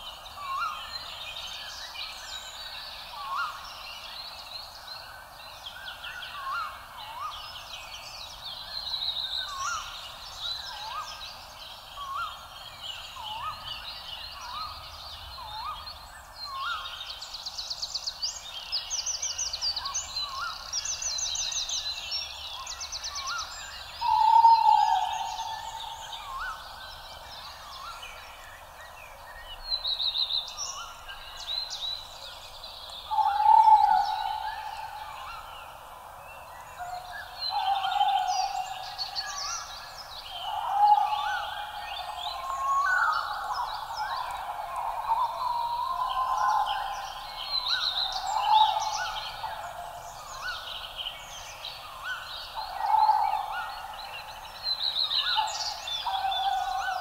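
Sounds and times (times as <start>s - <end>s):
birds calling and chirping: 8.6s - 57.0s.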